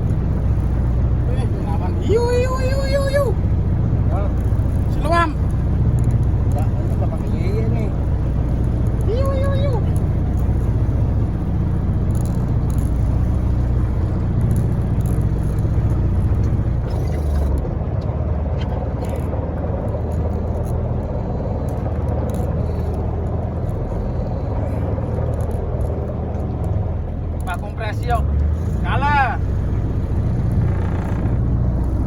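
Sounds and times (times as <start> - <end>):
boat engine rumbling: 0.0 - 32.0
water noise: 0.0 - 32.0
wind: 0.0 - 32.0.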